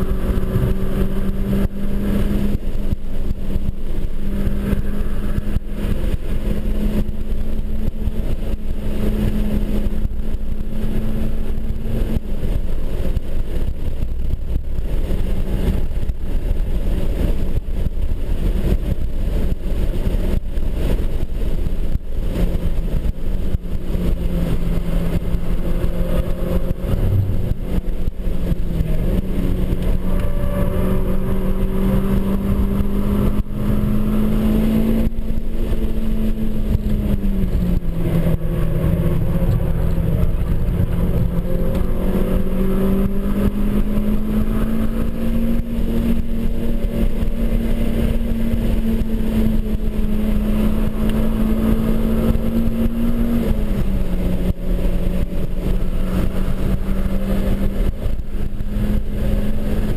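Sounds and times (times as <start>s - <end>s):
car engine under load: 0.0s - 59.9s
road and wind noise: 0.0s - 59.9s.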